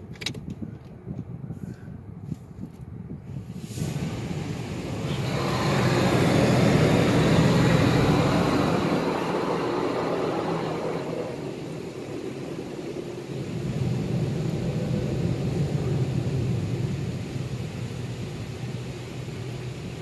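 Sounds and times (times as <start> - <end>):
car wash spraying water: 3.6 - 20.0
low machine hum: 3.9 - 20.0.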